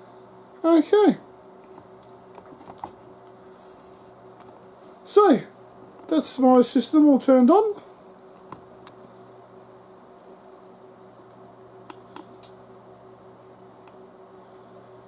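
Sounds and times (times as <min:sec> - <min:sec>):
computer fans humming: 0:00.0 - 0:15.0.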